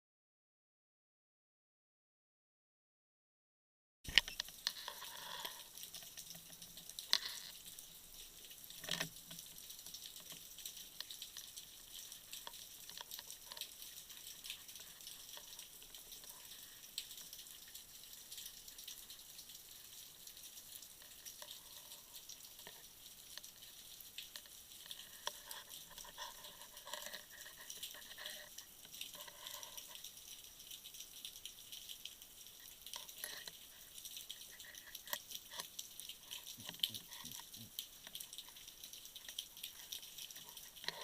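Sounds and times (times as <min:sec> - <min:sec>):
snapping shrimp crackle underwater: 0:04.1 - 0:41.0.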